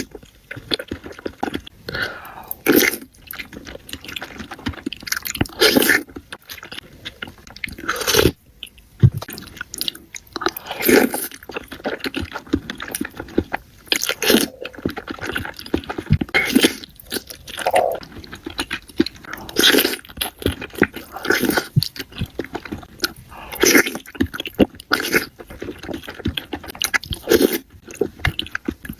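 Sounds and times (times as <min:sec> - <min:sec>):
person crunching crunchy food: 0:00.0 - 0:28.9
wet chewing clicks: 0:00.0 - 0:28.9.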